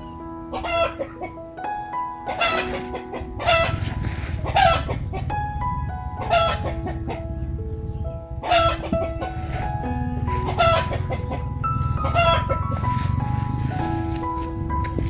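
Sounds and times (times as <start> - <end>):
chickens calling: 0.0 - 15.0
soft background music: 0.0 - 15.0.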